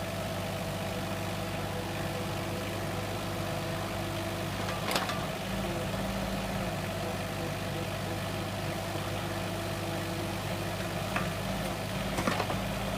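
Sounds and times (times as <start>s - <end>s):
heavy machine engine running: 0.0s - 12.9s.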